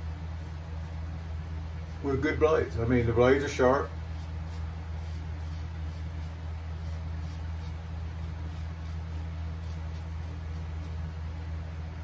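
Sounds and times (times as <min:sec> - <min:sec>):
steady low hum: 0:00.0 - 0:12.0
razor scraping stubble: 0:00.3 - 0:12.0.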